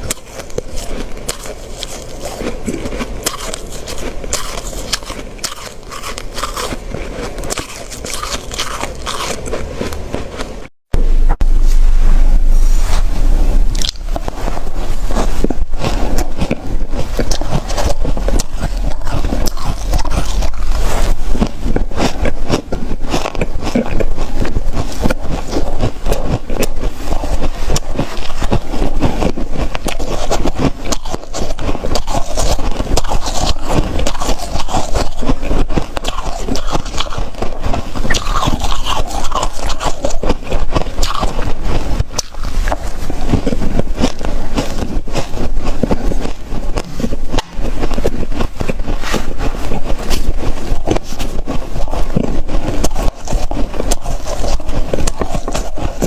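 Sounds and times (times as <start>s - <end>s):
ice crunching being chewed: 0.0s - 10.7s, 12.8s - 56.0s.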